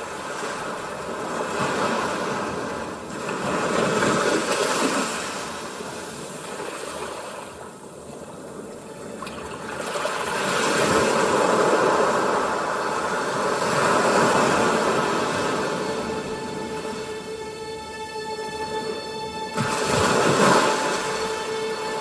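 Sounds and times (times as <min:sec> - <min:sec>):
sea waves washing in: 0:00.0 - 0:22.0.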